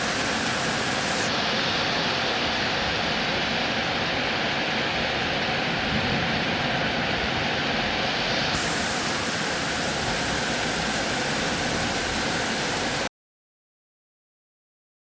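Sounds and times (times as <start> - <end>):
steady rain falling: 0.0 - 13.1.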